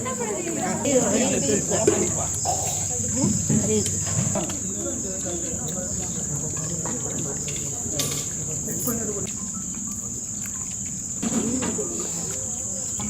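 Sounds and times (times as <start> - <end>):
faint voices: 0.0 - 13.0
insects chirring: 0.0 - 13.0.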